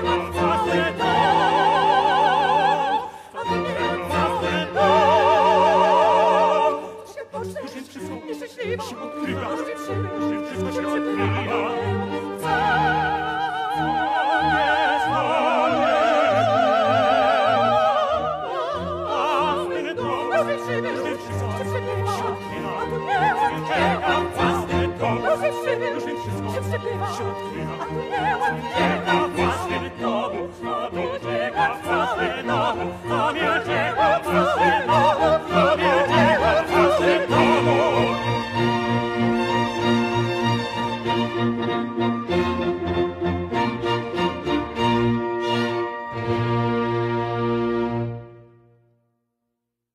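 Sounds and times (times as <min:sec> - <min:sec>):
sopranos singing with vibrato: 0:00.0 - 0:41.0.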